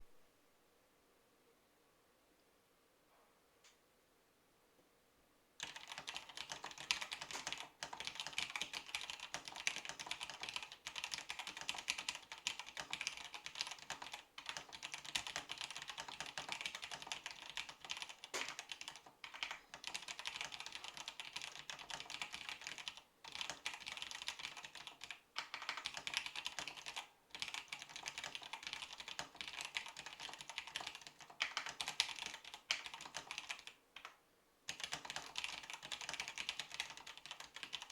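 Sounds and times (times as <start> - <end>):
fast typing on keyboard: 5.6 - 37.9.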